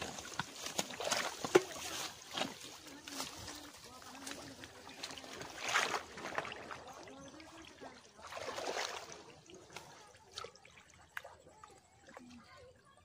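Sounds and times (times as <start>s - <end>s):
net swishing through water: 0.0s - 10.8s
river water splashing: 0.0s - 12.8s.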